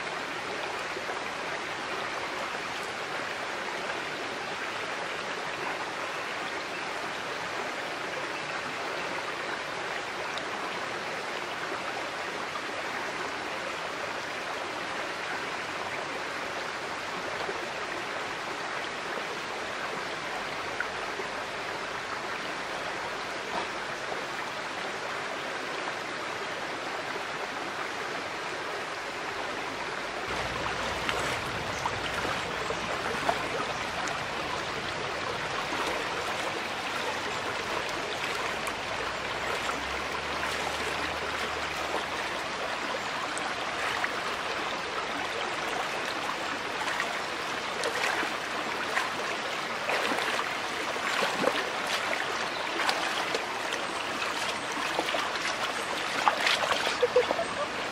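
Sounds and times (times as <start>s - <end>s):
stream babbling over stones: 0.0s - 57.9s.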